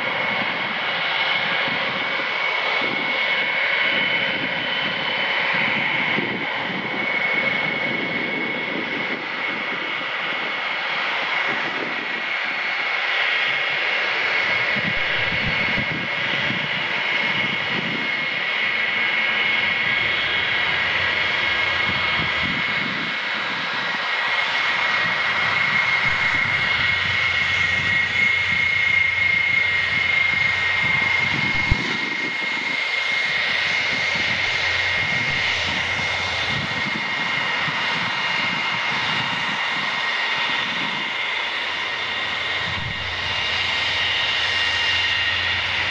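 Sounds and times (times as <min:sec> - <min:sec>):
jet engines whining and rumbling: 0:00.0 - 0:45.9.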